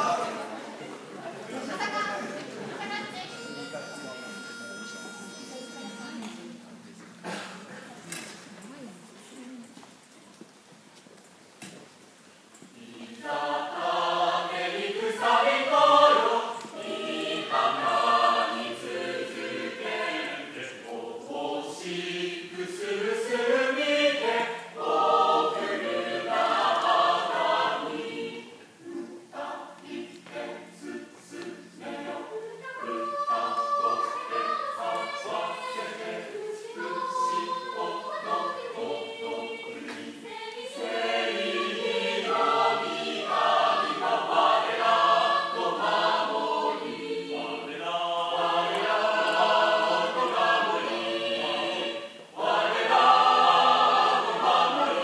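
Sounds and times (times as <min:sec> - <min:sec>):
mixed choir singing a hymn: 0:00.0 - 0:08.4, 0:12.6 - 0:55.0.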